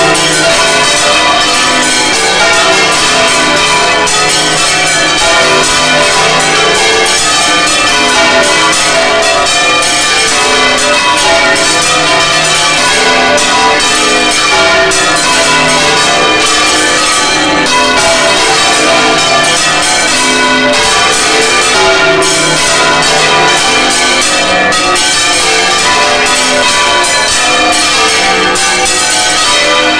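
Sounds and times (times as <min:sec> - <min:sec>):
large bells ringing: 0:00.0 - 0:29.9.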